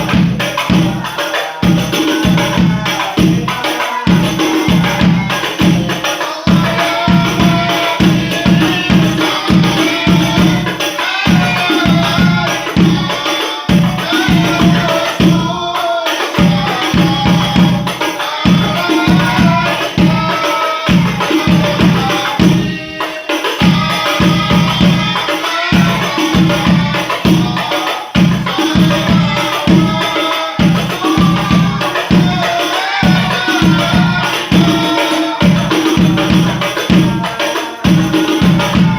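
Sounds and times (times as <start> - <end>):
frame drums beating: 0.0 - 38.9
voices singing devotional song: 0.0 - 38.9.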